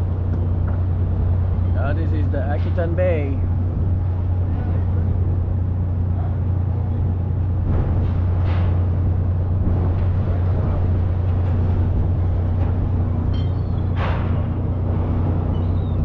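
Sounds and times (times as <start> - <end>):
boat engines humming: 0.0 - 16.0.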